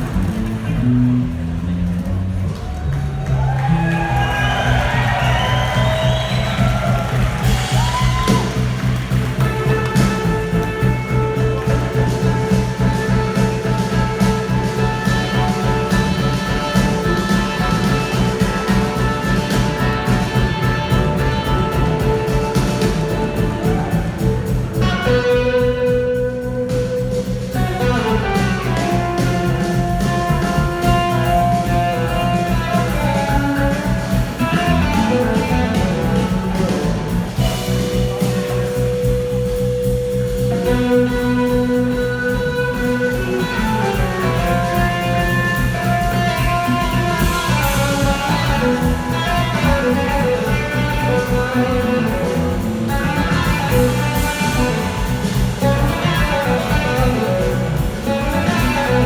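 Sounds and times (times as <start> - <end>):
blues-rock band playing: 0.0 - 59.0.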